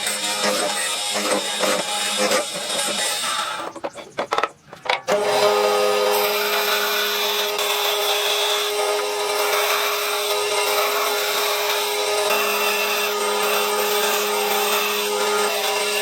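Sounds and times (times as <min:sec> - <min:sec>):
electric power tool cutting wood: 0:00.0 - 0:04.0, 0:05.1 - 0:16.0.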